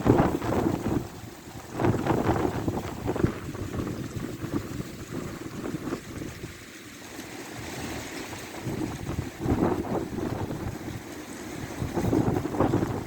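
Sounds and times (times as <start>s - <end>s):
wind gusts buffeting microphone: 0.0s - 13.0s.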